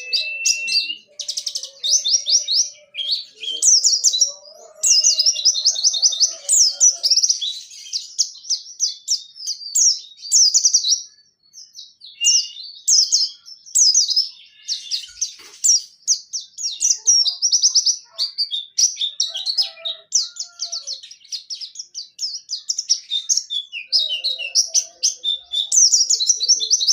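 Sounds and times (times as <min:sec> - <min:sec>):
bird singing rapid high trills: 0:00.0 - 0:26.9.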